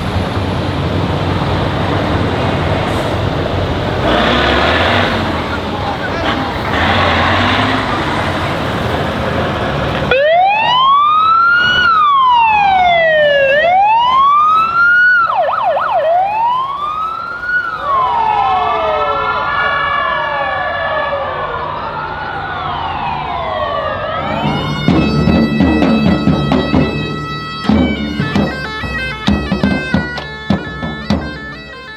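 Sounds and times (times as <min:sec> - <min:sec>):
emergency siren wailing: 0:00.0 - 0:31.9
second siren wailing: 0:00.2 - 0:28.6.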